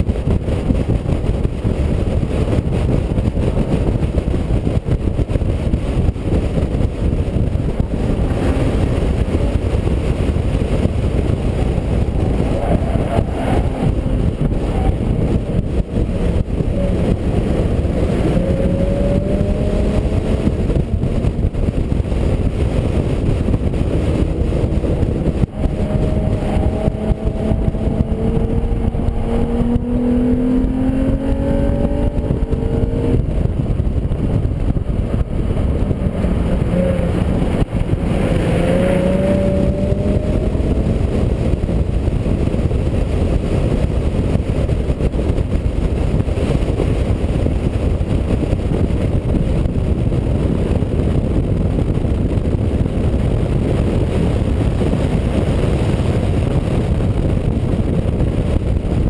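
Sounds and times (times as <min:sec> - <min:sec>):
car engine accelerating: 0:00.0 - 0:59.0
loud steady rushing noise: 0:00.0 - 0:59.0.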